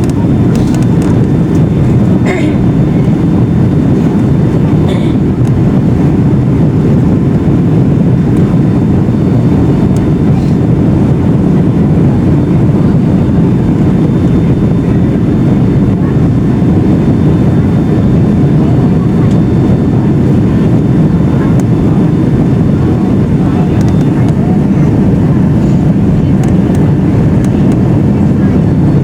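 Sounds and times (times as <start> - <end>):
jet engine cabin rumble: 0.0 - 29.0.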